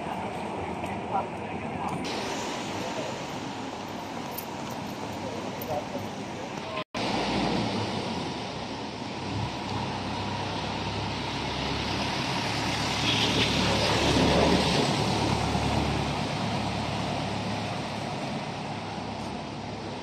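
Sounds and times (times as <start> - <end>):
steady street hiss: 0.0 - 20.0.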